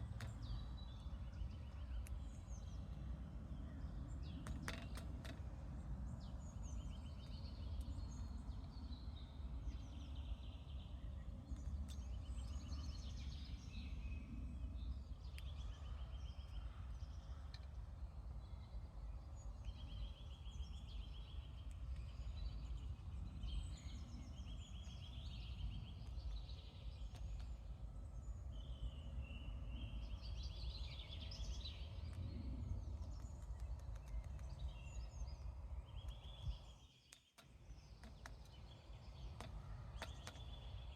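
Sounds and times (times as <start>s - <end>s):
songbirds singing trills: 0.0s - 40.9s.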